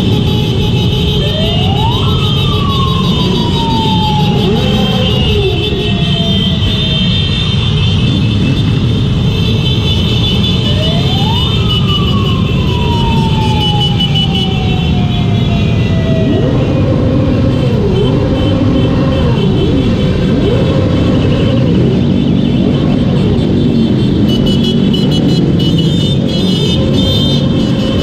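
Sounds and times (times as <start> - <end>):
siren wailing: 0.0 - 8.5, 10.3 - 28.0
motorcycle engines rumbling: 0.0 - 28.0
road noise: 0.0 - 28.0.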